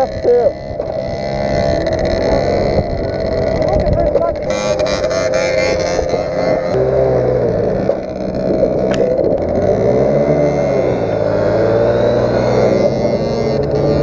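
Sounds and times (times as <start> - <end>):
moped engines revving: 0.0 - 14.0.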